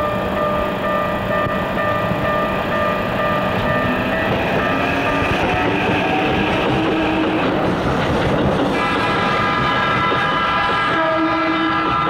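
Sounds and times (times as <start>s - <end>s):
crossing warning tones: 0.0s - 12.0s
train wheels rumbling on rails: 0.0s - 12.0s.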